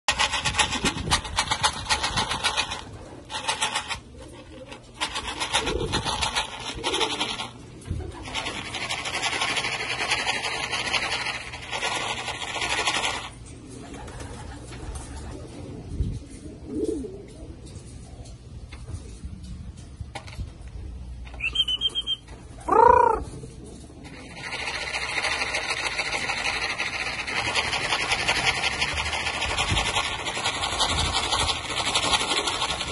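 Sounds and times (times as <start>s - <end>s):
pigeons cooing: 0.1s - 19.0s, 21.2s - 32.9s.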